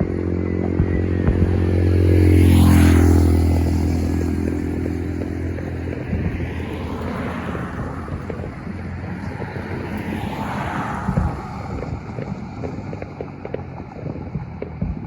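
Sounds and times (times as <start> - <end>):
vehicle driving past: 0.0 - 15.0.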